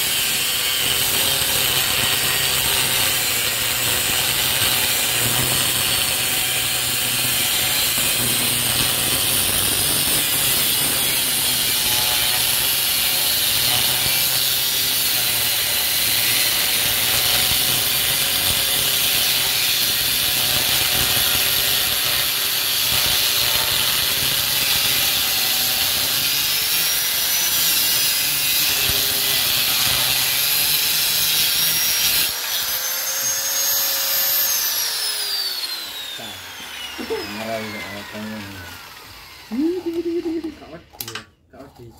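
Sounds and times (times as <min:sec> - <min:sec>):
grinder motor whining freely: 0:00.0 - 0:41.0
angle grinder cutting metal tube: 0:00.0 - 0:41.2.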